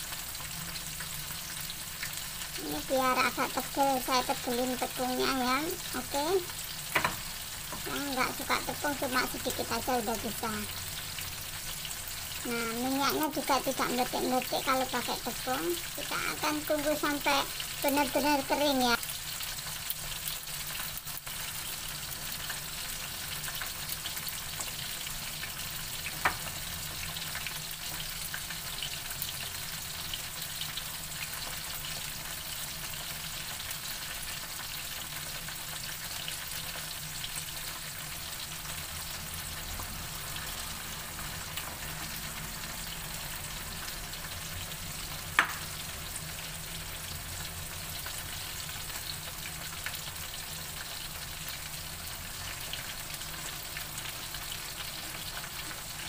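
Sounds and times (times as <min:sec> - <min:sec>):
food deep-frying in oil: 0:00.0 - 0:56.0.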